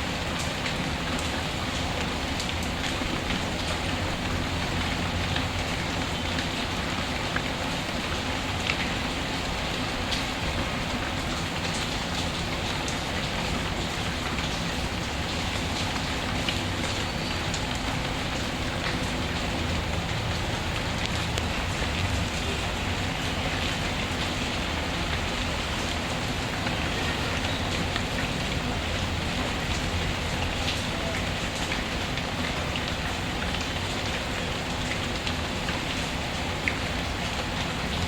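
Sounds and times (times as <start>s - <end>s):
steady rainfall: 0.0s - 38.0s.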